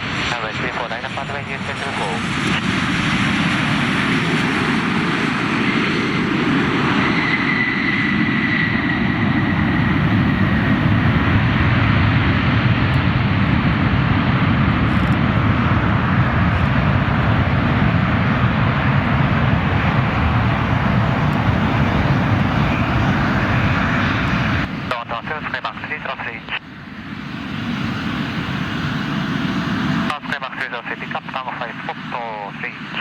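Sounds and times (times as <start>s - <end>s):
airliner engines rumbling: 0.0s - 33.0s
faint high engine whine: 0.0s - 33.0s.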